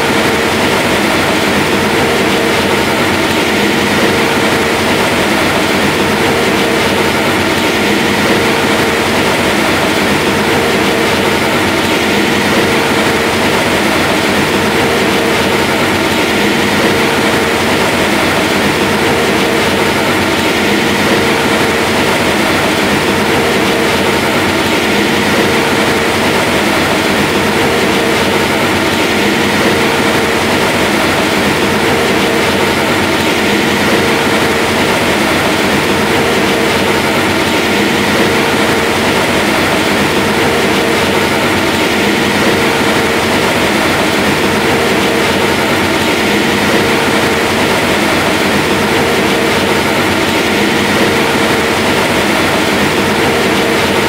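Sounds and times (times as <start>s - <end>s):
diesel engine running under load: 0.0s - 54.0s
steady machine whine: 0.0s - 54.0s.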